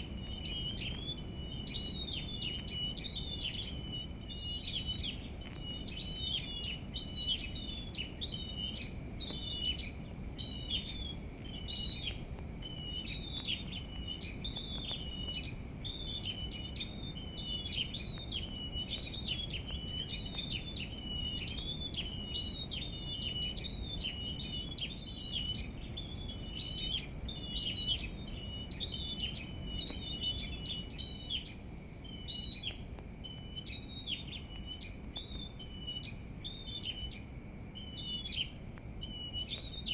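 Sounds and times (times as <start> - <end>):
faint high whine: 0.0 - 39.9
small songbirds twittering: 0.0 - 39.9.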